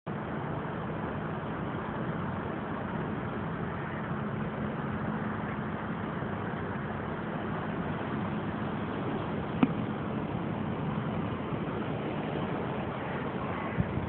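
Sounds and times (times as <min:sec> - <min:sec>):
low mechanical hum: 0:00.1 - 0:14.0.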